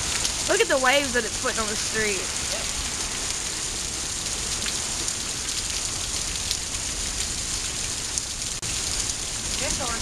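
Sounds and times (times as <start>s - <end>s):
heavy rain on street: 0.0s - 10.0s.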